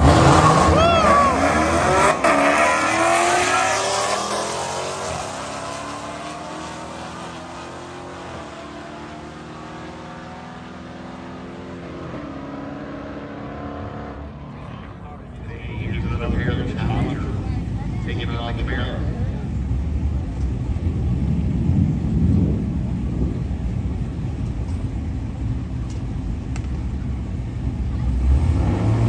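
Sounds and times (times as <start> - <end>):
car engines at full throttle: 0.0 - 29.0.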